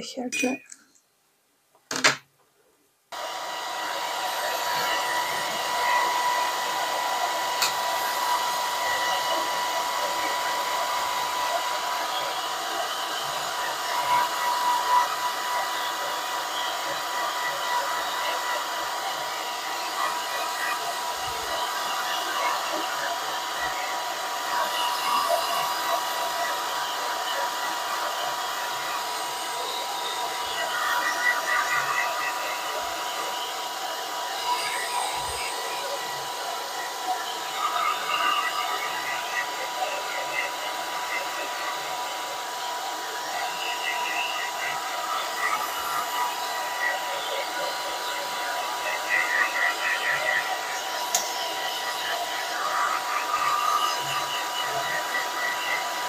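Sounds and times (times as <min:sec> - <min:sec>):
hair dryer blowing: 0:03.1 - 0:56.0.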